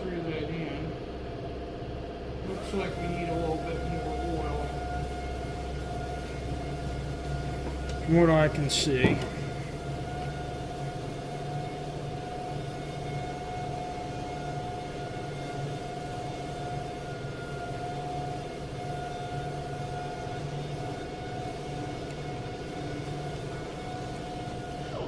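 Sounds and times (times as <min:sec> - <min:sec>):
machine hum with whining tone: 0:00.0 - 0:25.0.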